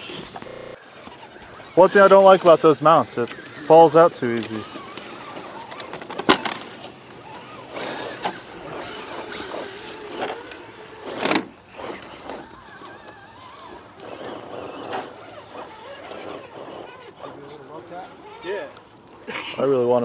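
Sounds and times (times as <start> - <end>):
electric motor and gears whining: 0.0 - 20.0.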